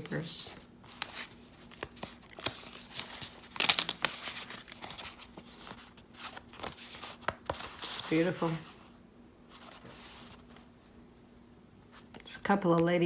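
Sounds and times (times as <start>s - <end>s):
paper rustling and crinkling: 0.0s - 10.9s.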